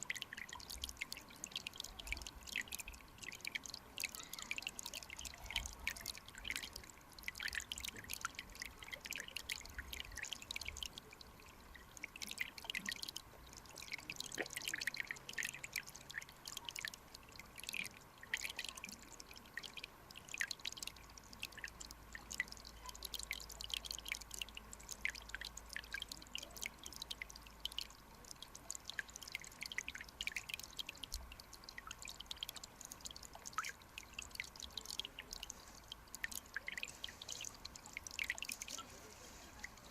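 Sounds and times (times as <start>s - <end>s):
faint steady hum: 0.0s - 39.9s
stream water bubbling and dripping: 0.0s - 39.9s.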